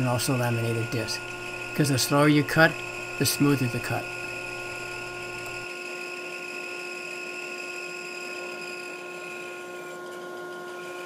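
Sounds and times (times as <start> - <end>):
band saw cutting wood: 0.0 - 11.0.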